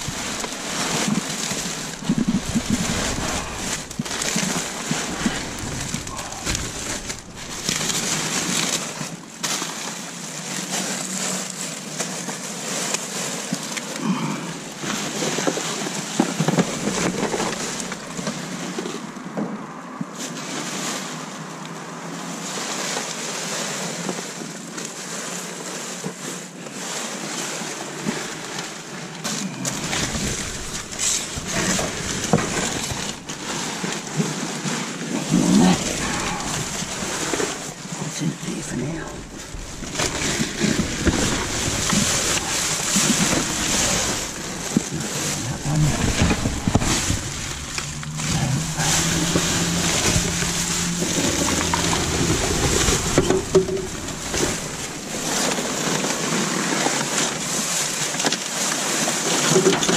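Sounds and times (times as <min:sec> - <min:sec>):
rubbish rustling and knocking: 0:00.0 - 0:19.6, 0:22.5 - 0:59.9
rushing outdoor noise: 0:00.0 - 0:59.9.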